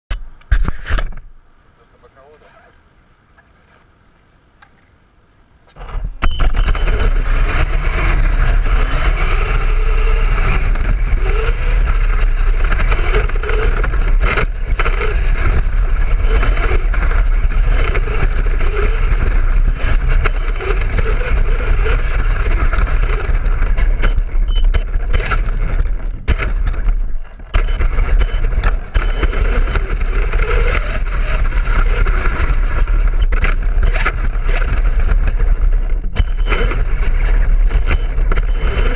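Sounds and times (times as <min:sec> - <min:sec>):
faint motor whine: 0:00.1 - 0:38.9
toy truck rumbling over dirt: 0:05.8 - 0:38.9.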